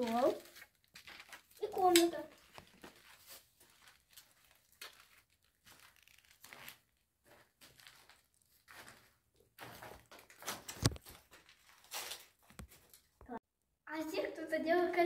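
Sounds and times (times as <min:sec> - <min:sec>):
footsteps crunching on rubble: 0:00.0 - 0:13.4.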